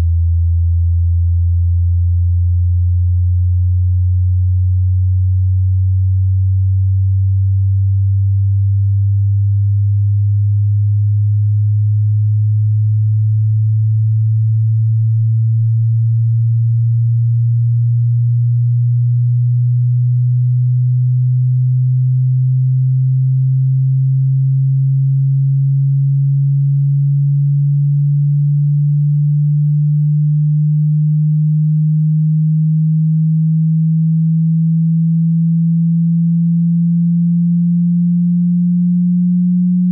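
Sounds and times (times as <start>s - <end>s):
sine tone rising in pitch: 0.0s - 39.9s.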